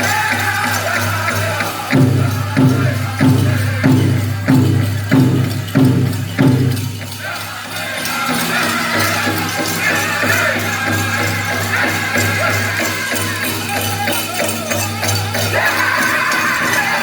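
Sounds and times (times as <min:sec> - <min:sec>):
big drum beats: 0:00.0 - 0:15.9
jingling bells: 0:00.0 - 0:17.0
people singing: 0:00.0 - 0:17.0.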